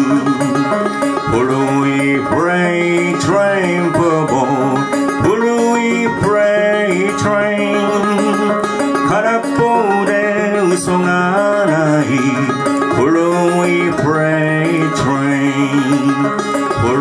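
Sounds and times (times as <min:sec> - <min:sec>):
banjo fingerpicking: 0:00.0 - 0:17.0.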